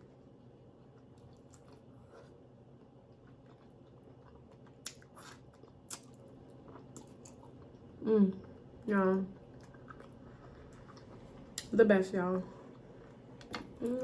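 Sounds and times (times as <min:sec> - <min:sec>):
soft chewing: 0:00.0 - 0:11.8.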